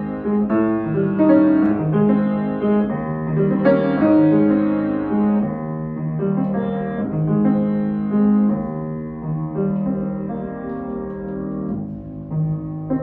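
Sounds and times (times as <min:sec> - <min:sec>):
classical grand piano: 0:00.0 - 0:13.0.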